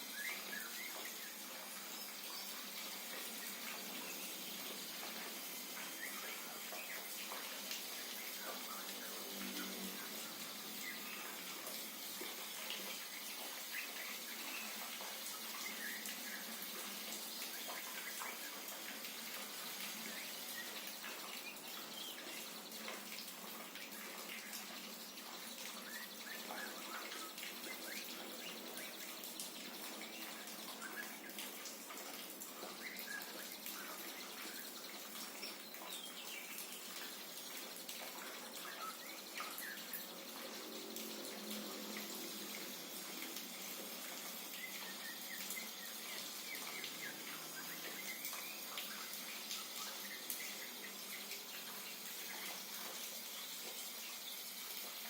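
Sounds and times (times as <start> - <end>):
falling water rushing and pattering: 0.0 - 55.0.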